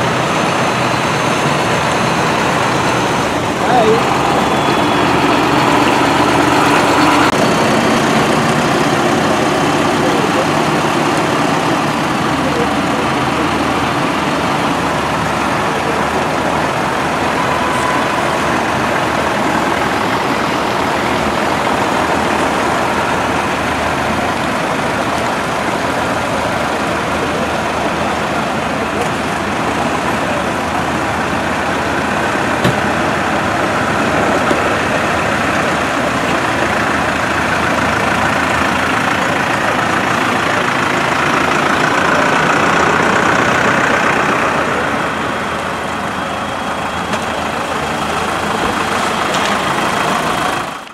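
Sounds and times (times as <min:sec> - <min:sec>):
tractor diesel engines driving past: 0:00.0 - 0:50.9.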